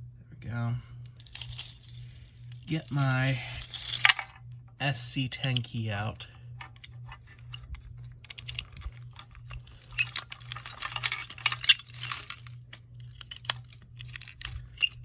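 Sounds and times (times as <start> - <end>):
keys jangling: 1.0 - 4.4, 5.4 - 15.0.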